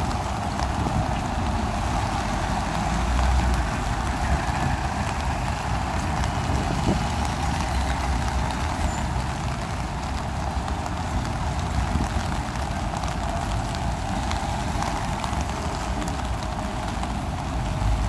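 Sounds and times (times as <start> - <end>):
cars hissing on wet road: 0.0 - 18.0.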